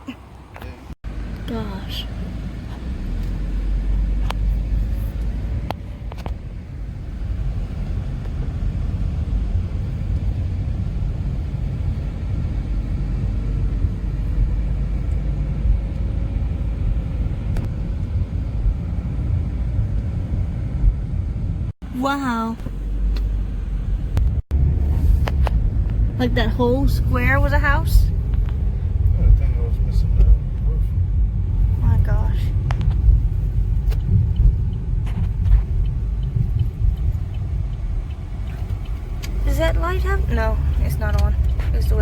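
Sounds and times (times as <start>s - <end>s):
car interior road and engine noise: 0.0s - 42.0s.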